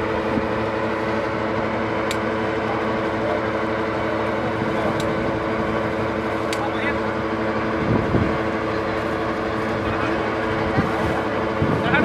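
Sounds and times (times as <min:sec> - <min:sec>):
drilling rig machine drone: 0:00.0 - 0:12.0.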